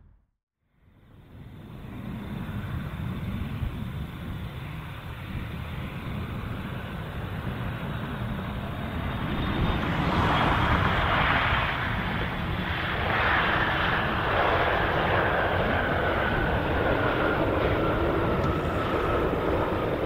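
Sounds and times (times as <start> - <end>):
faint high whine: 0.7 - 20.0
jet airliner engine roar: 0.8 - 20.0.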